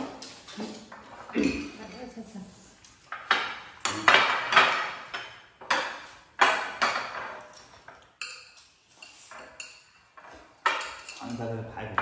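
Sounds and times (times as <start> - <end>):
dishes and utensils clinking: 0.0 - 12.0.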